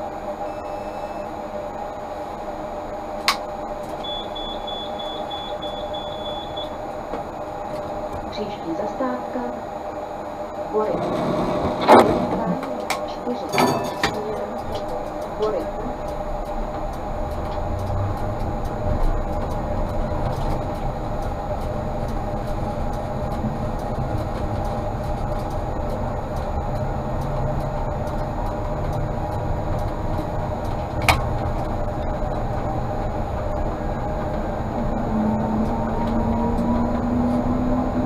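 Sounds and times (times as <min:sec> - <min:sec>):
tram motor whine: 0:00.0 - 0:38.0
tram rumbling on rails: 0:00.0 - 0:38.0.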